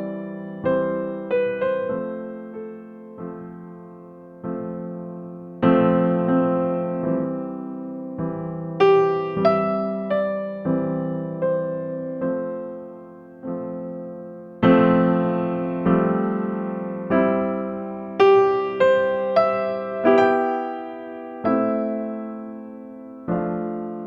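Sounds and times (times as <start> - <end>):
gentle electric piano: 0.0 - 24.0.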